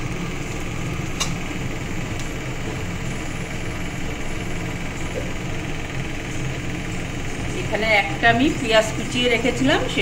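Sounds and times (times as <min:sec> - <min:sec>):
low kitchen rumble with hiss: 0:00.0 - 0:10.0.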